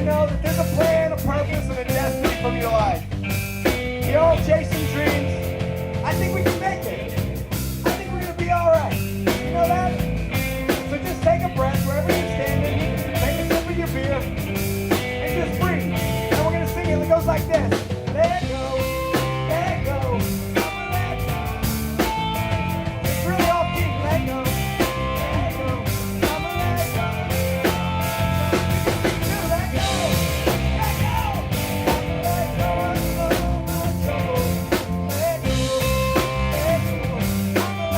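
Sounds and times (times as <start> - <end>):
drum kit steady beat: 0.0 - 37.9
live rock band playing: 0.0 - 37.9.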